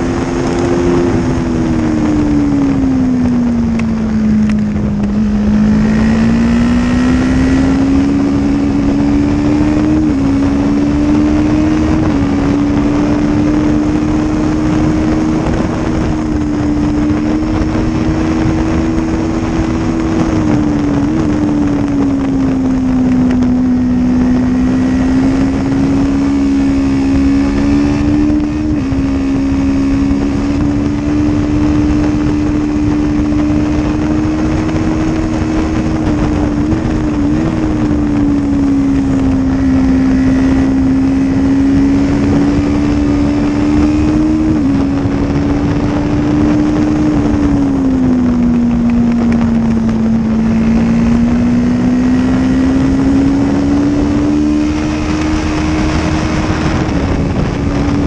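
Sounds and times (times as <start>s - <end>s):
motorcycle engine revving: 0.0s - 58.0s
wind rush on microphone: 0.0s - 58.0s.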